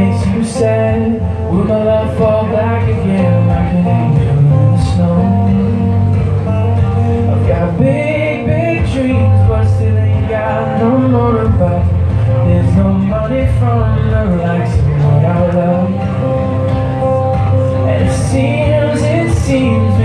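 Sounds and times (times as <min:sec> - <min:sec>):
man singing: 0:00.0 - 0:20.0
strummed acoustic guitar: 0:00.0 - 0:20.0.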